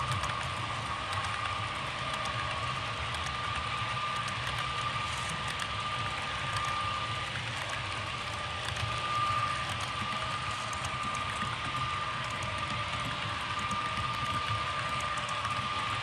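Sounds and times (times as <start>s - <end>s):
model train high whine: 0.0s - 16.0s.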